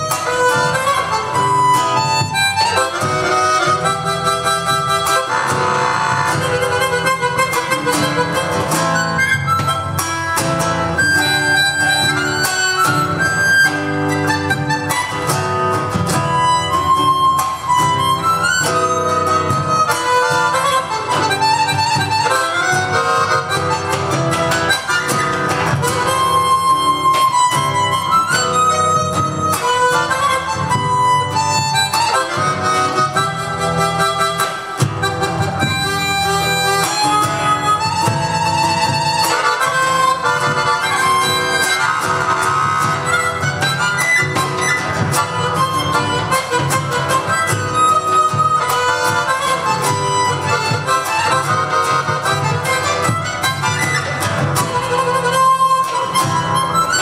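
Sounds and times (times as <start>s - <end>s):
harmonica melody: 0.0s - 57.0s.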